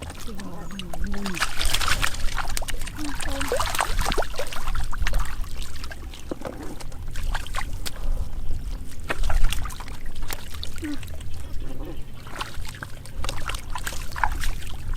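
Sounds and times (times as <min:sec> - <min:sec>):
water splashing and trickling: 0:00.0 - 0:14.9.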